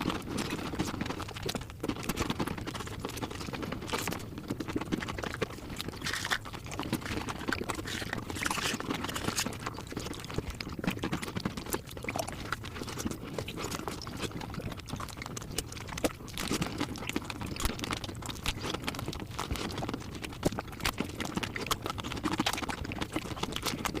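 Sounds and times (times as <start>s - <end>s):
sped-up chewing clicks and smacks: 0.0s - 24.0s.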